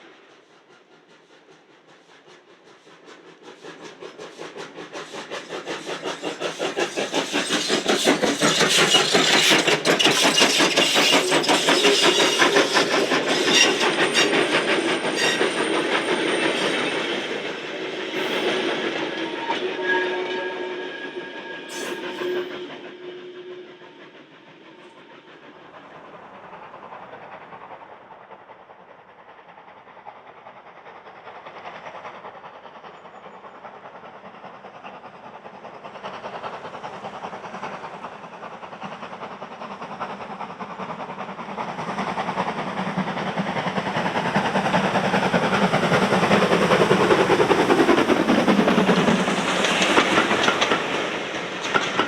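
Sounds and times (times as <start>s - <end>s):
steam train passing: 0.0s - 52.0s.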